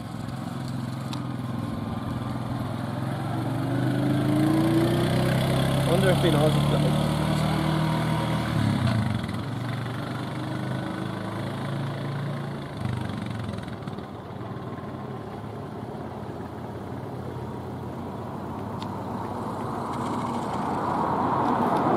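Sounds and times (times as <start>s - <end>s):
quad bike engine pulling away: 0.0s - 21.2s
road traffic: 0.0s - 21.9s.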